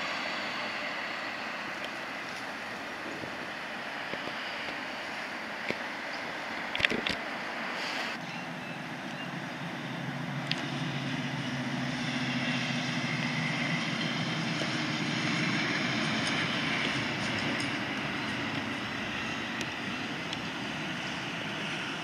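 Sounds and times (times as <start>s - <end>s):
traffic noise: 0.0s - 22.0s
tram passing: 0.0s - 22.0s.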